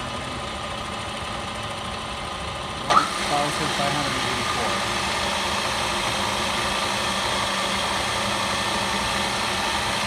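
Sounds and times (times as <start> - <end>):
drill press whine: 0.7 - 10.0.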